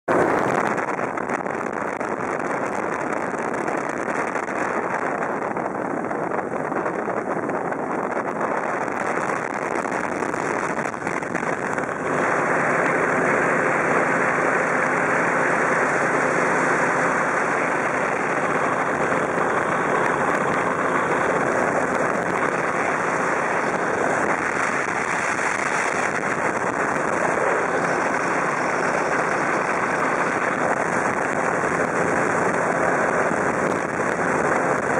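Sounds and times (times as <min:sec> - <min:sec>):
airflow on microphone: 0:00.1 - 0:34.9
powered hang-glider engine: 0:00.1 - 0:34.9.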